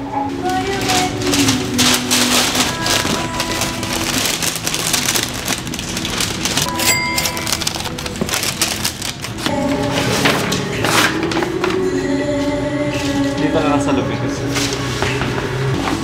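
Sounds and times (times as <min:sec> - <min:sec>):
tissue paper rustling and crinkling: 0:00.0 - 0:16.0.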